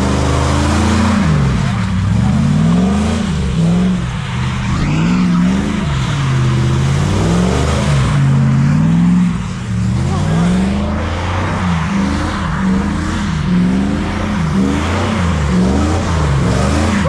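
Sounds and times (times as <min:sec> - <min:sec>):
car engine revving: 0:00.0 - 0:17.0
steady rushing noise: 0:00.4 - 0:17.0.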